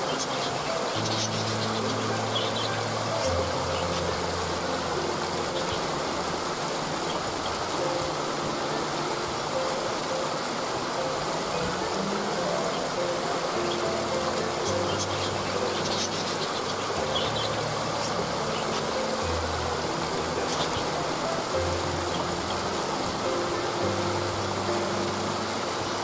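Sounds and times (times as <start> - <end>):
soft background music: 0.0 - 26.0
waterfall rushing: 0.0 - 26.0.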